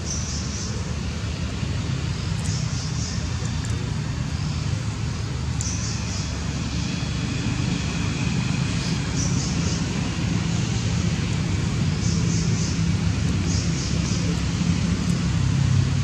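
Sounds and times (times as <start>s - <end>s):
motor traffic engine drone: 0.0s - 16.0s.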